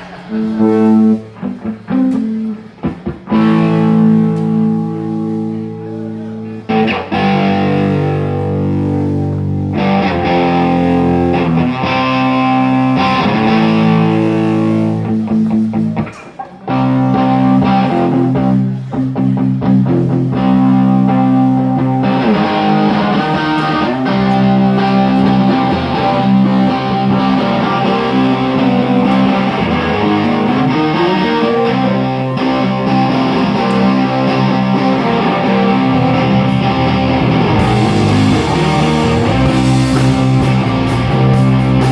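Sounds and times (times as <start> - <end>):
electric guitar chords and riffs: 0.0 - 41.9.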